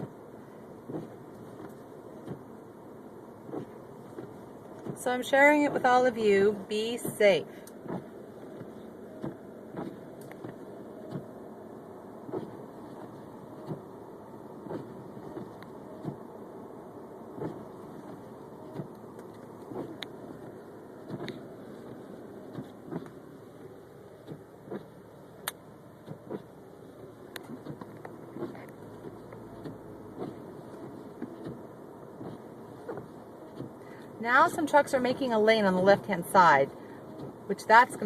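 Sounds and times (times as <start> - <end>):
car running inside cabin: 0.0 - 38.0.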